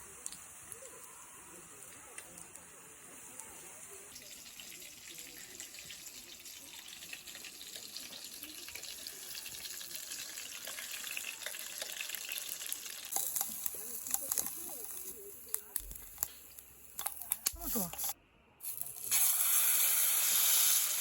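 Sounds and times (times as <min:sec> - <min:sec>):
shrimp deep-frying in hot oil: 0:00.0 - 0:21.0.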